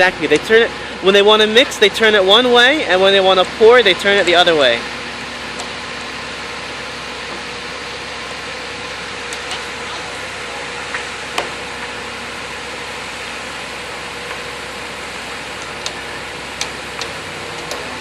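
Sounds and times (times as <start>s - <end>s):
concrete mixer truck running: 0.0s - 18.0s.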